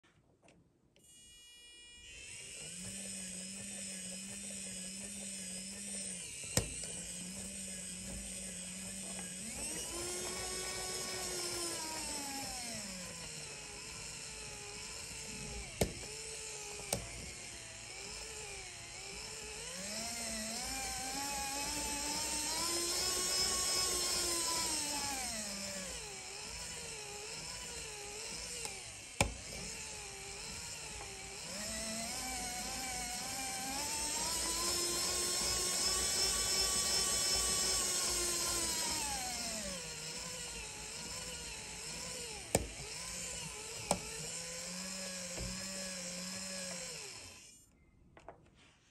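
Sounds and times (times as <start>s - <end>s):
electric motor whining: 1.0s - 47.6s.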